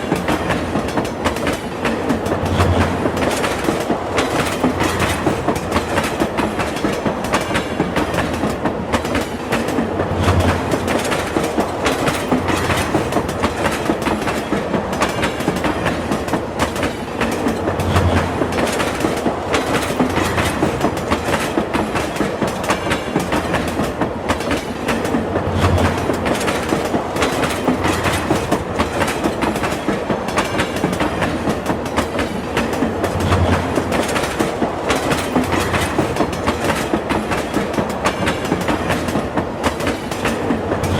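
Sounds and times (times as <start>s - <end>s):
train wheels clickety-clack: 0.0s - 40.9s.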